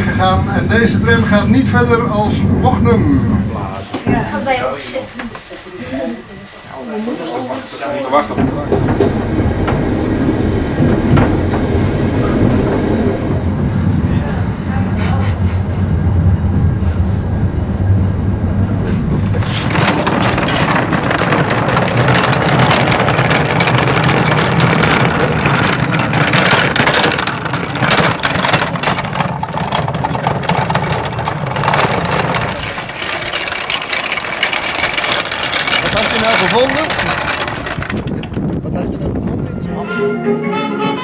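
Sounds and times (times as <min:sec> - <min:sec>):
train low rumble: 0:00.0 - 0:04.3, 0:07.6 - 0:39.9.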